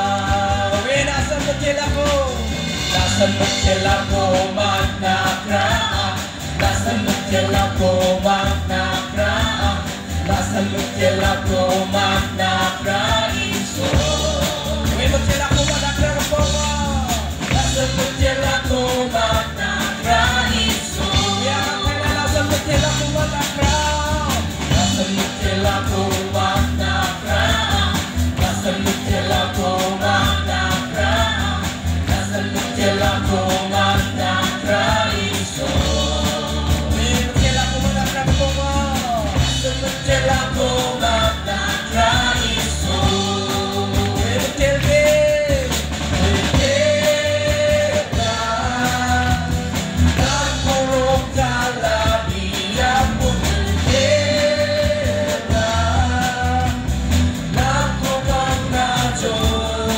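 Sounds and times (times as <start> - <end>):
people singing together: 0.0 - 59.9
worship band playing: 0.0 - 59.9.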